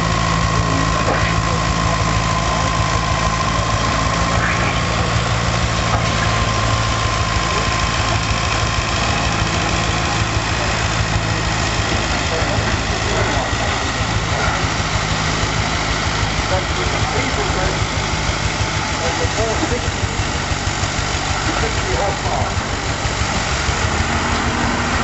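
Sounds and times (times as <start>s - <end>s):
steady high whine: 0.0s - 25.0s
tractor engine running: 0.0s - 25.0s.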